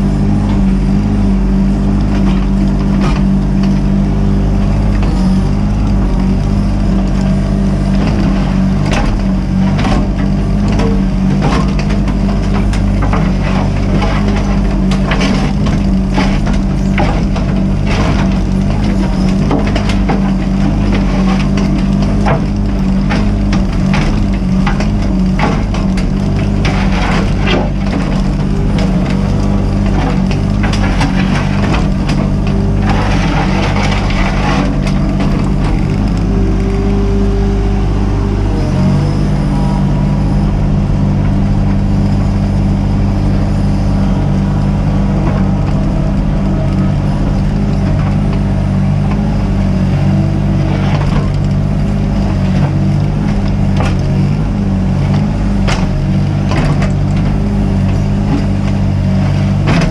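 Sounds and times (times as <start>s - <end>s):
diesel excavator engine running: 0.0s - 59.9s
excavator bucket knocking and scraping: 0.0s - 59.9s.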